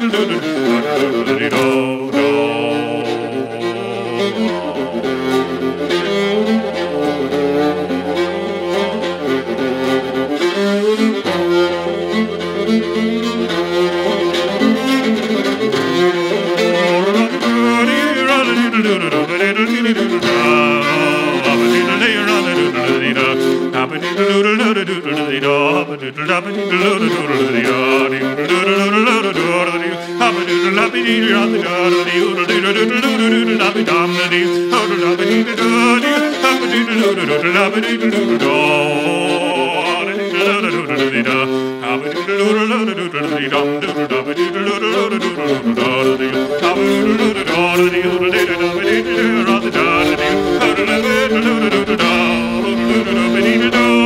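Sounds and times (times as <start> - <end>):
solo fiddle tune: 0.0 - 54.0.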